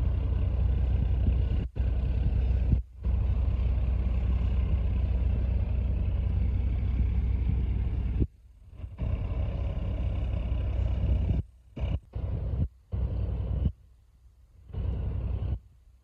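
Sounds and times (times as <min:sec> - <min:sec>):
boat diesel engine droning: 0:00.0 - 0:13.8, 0:14.6 - 0:16.0.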